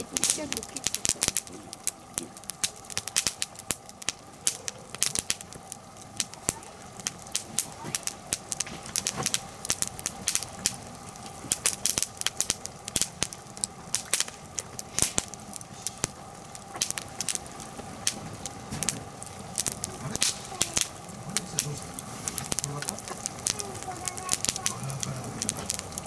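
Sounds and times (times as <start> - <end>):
campfire crackling and popping: 0.0 - 26.0
low hiss of burning: 0.0 - 26.0.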